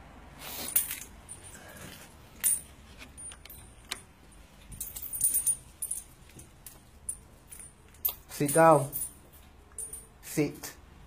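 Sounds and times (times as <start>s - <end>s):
metallic jingling and clicking: 0.7s - 10.3s.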